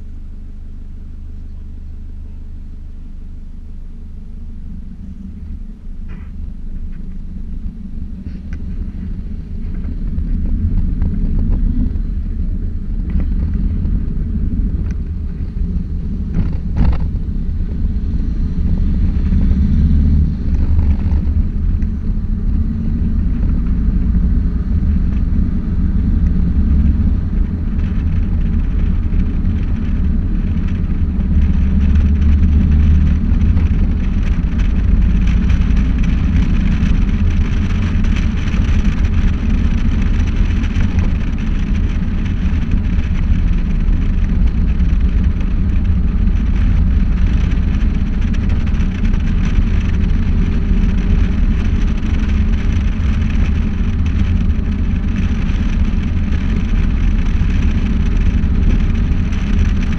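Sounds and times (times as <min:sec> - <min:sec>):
moving vehicle rumble: 0:00.0 - 0:59.9
road and wind noise: 0:00.0 - 0:59.9.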